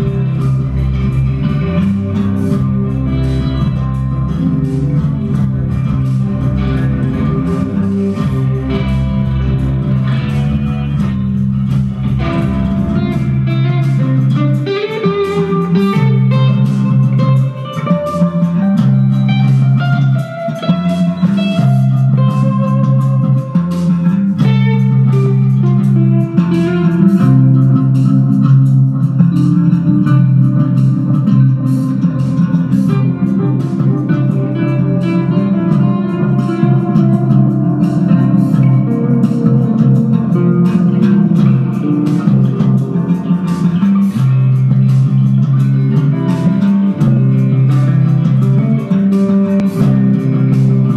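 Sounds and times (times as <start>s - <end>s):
electric bass notes: 0.0s - 50.9s
electric guitar lead lines: 0.0s - 50.9s.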